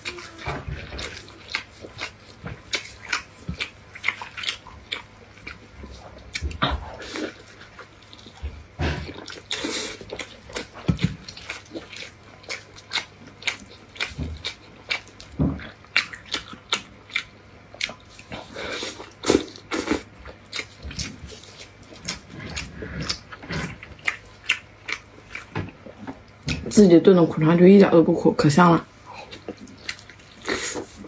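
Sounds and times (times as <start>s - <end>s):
wet chewing and lip-smacking: 0.0s - 26.7s, 29.2s - 31.0s.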